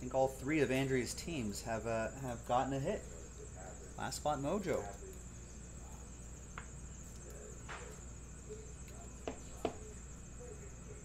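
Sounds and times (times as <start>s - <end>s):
faint high-pitched whine: 0.0s - 11.0s.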